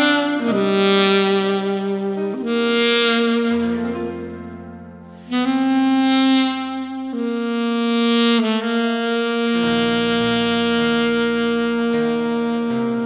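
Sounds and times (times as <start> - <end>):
alto saxophone melody: 0.0 - 13.0
low accompanying backing: 0.0 - 13.0.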